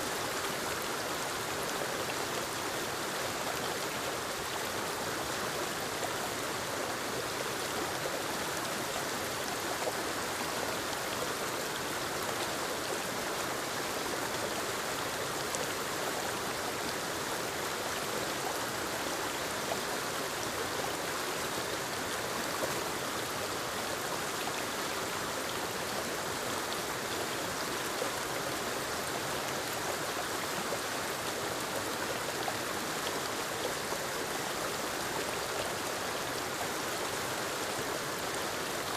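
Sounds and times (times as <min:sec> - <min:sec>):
waterfall rushing over rocks: 0:00.0 - 0:38.9.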